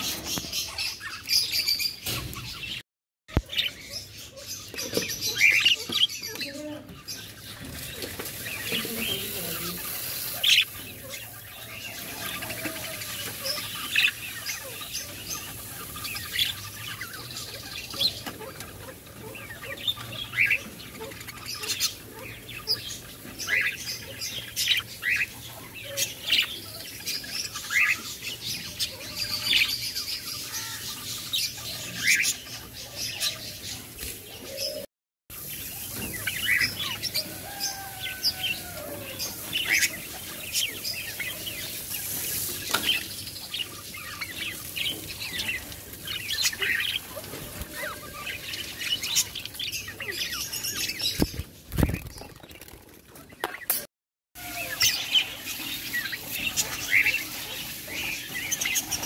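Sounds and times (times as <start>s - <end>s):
budgerigars chirping: 3.4s - 33.9s, 35.5s - 51.4s, 54.4s - 59.0s.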